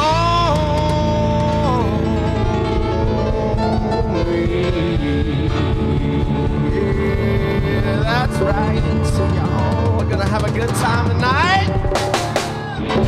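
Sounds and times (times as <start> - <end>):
band music with guitar and singing: 0.0 - 13.0.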